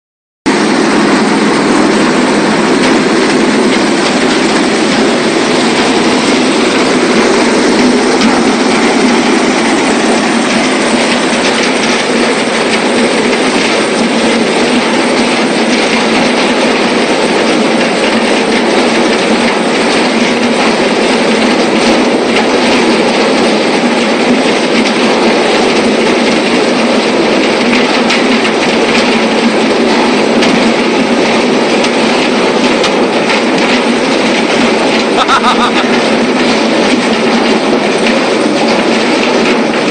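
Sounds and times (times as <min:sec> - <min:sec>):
wood chipper chipping logs: 0:00.5 - 0:39.9.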